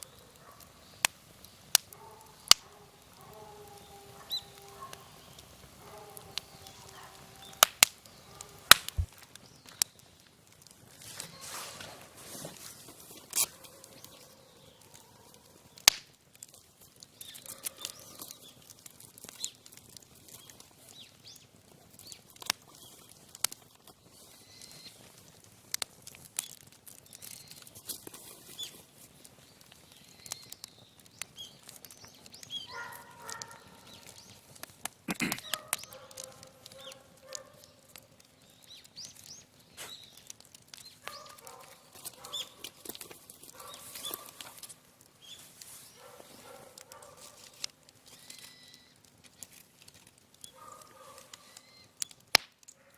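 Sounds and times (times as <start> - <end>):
fire popping: 0.0 - 52.9
wood fire crackling: 0.0 - 52.9.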